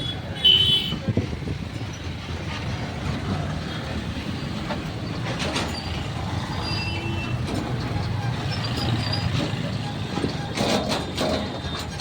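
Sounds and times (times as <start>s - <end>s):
train passing with low rumble: 1.0s - 12.0s.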